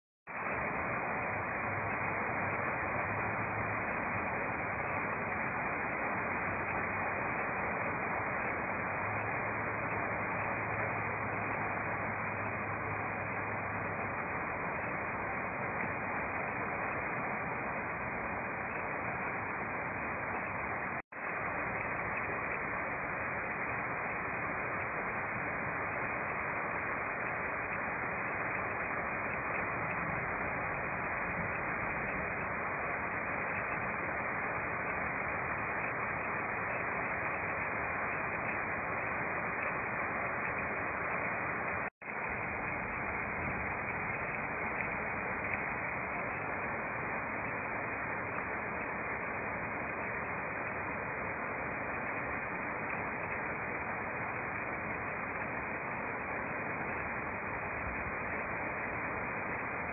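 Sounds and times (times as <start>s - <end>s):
heavy rain on roofs and pavement: 0.3s - 59.9s.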